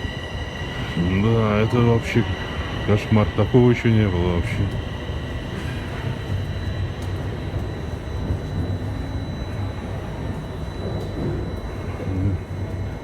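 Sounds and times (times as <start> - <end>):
subway train rumble and hum: 0.0 - 13.0.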